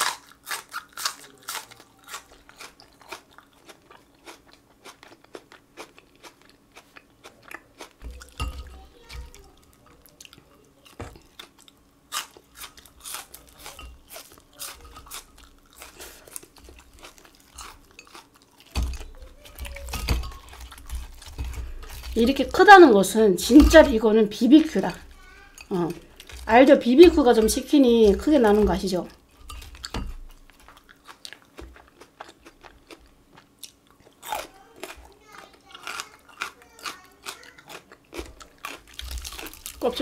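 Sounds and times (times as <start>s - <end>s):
crunchy chewing: 0.0s - 40.0s.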